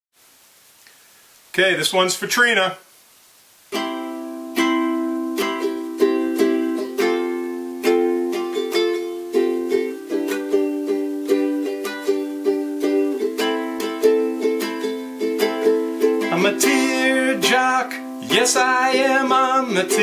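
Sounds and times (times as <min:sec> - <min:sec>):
ukulele strumming: 0:03.7 - 0:20.0.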